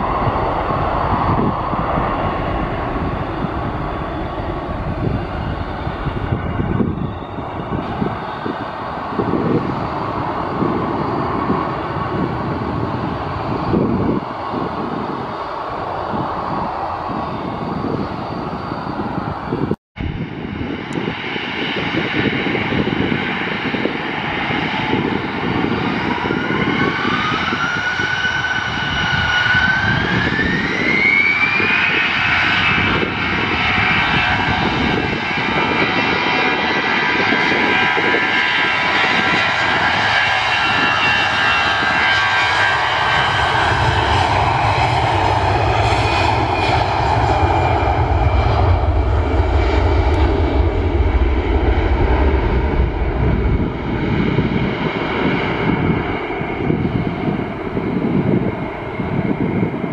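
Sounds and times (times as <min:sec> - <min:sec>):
deep rumble of jet accelerating: 0:00.0 - 0:59.9
jet engines whining: 0:00.0 - 0:59.9.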